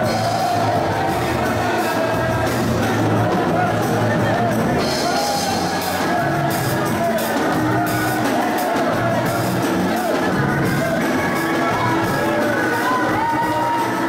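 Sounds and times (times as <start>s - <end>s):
church worship band music: 0.0s - 14.0s
drums: 0.0s - 14.0s.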